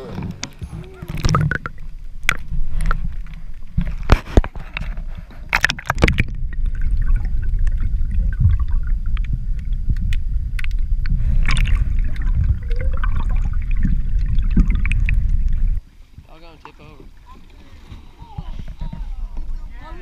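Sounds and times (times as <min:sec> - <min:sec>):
muffled underwater water rushing: 0:00.0 - 0:20.0
water splashes: 0:00.0 - 0:20.0.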